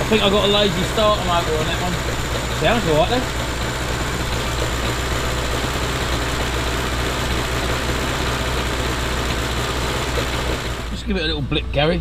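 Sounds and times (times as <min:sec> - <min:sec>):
petrol engine idling: 0:00.0 - 0:12.0.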